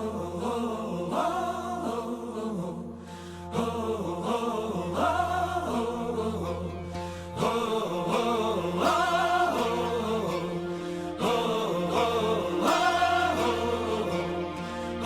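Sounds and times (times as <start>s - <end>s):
choir-like voices singing: 0.0s - 15.0s
low drone: 0.0s - 15.0s.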